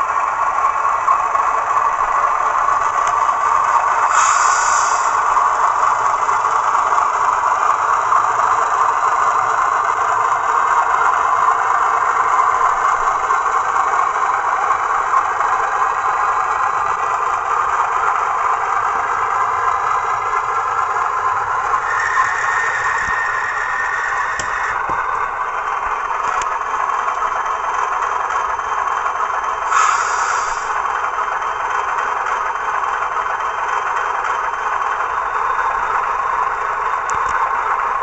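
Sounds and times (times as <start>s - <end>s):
model diesel engine sound: 0.0s - 38.0s.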